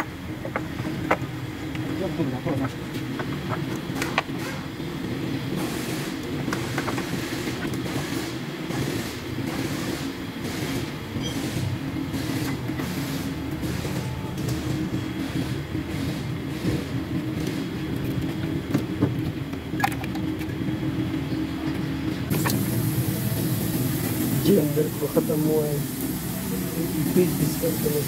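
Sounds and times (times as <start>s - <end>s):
low mechanical rumble: 0.0s - 28.0s.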